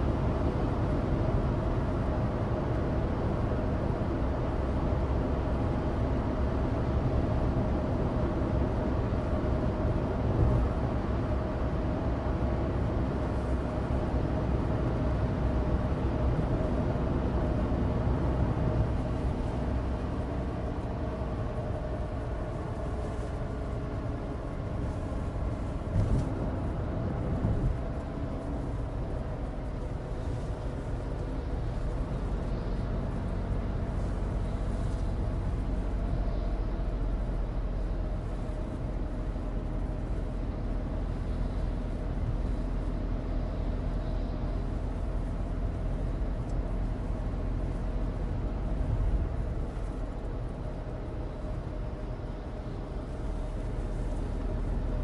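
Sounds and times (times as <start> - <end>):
car engine running at cruise: 0.0 - 55.0.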